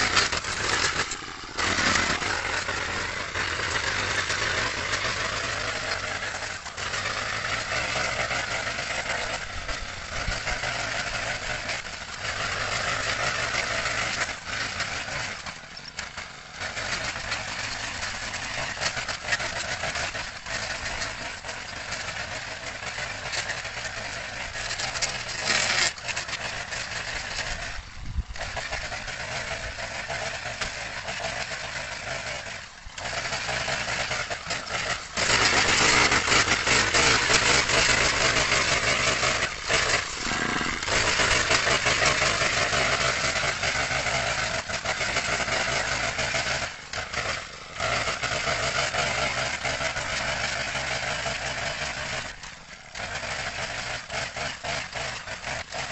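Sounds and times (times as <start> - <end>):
brush-cutter engine running: 0.0 - 55.9.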